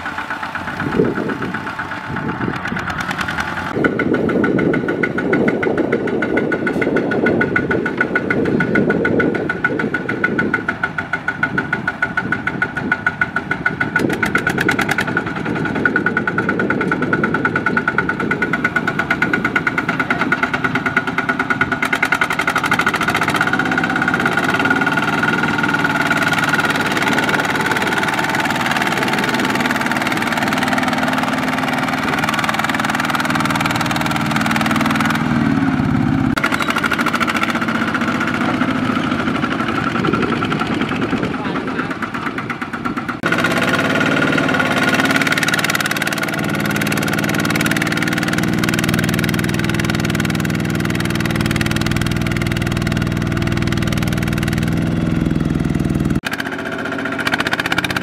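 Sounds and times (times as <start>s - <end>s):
diesel engine pulsing: 0.0s - 58.0s.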